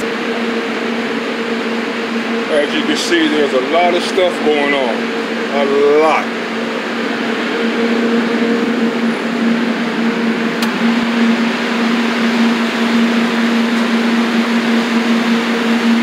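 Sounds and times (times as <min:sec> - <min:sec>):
low motor hum: 0:00.0 - 0:16.0
ventilation fan rushing: 0:00.0 - 0:16.0.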